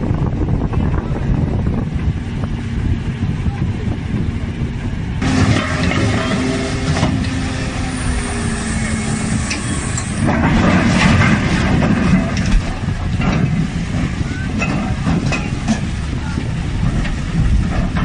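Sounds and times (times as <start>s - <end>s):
heavy machinery humming: 0.0s - 18.0s.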